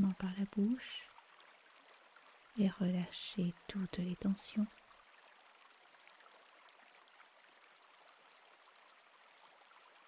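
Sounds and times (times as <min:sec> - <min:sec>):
stream babbling: 0:00.0 - 0:10.0.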